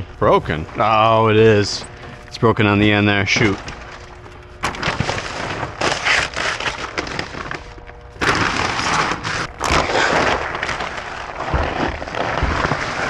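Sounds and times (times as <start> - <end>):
cardboard scraping: 0.0 - 13.0
dry kibble crunching: 0.0 - 13.0
plastic bags crinkling: 0.0 - 13.0.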